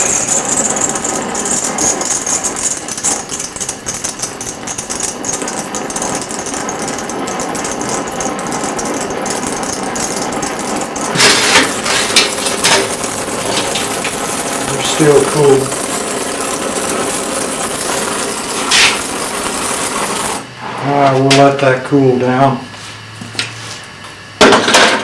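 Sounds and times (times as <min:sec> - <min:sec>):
clattering bursts: 0:00.0 - 0:20.5
welding torch flame crackling: 0:00.0 - 0:22.6.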